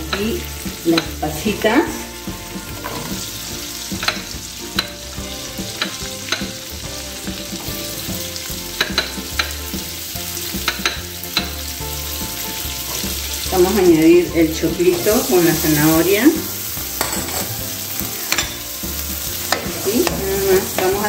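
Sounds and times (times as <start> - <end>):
butter sizzling in a wok: 0.0 - 21.0.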